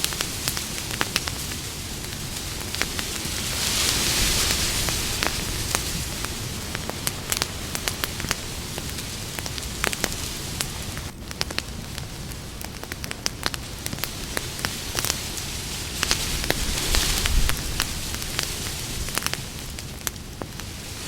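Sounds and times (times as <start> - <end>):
campfire crackling and popping: 0.0 - 21.0
campfire hiss: 0.0 - 21.0.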